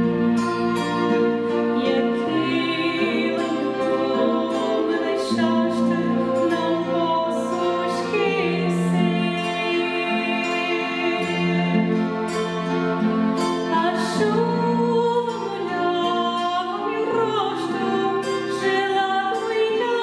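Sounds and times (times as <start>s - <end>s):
violins bowing long notes: 0.0s - 19.7s
classical guitars: 0.0s - 20.0s
woman singing: 1.7s - 12.6s, 13.4s - 20.0s.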